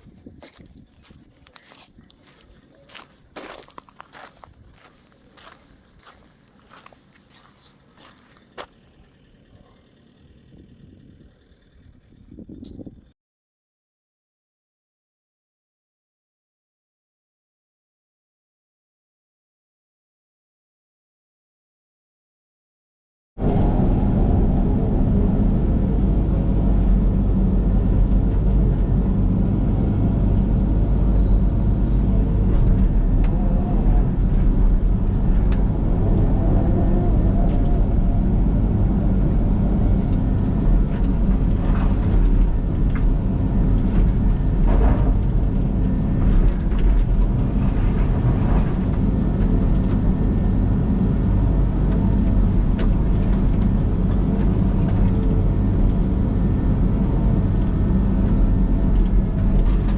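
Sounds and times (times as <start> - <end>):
excavator diesel engine running: 0.0 - 13.0, 23.4 - 59.9.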